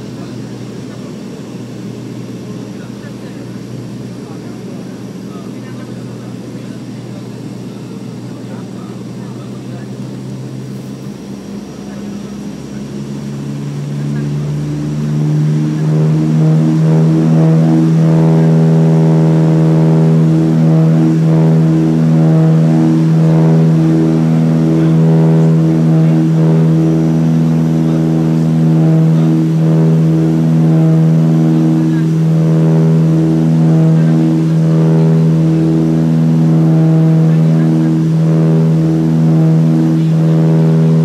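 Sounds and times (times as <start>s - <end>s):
propeller aircraft engines droning: 0.0s - 41.0s.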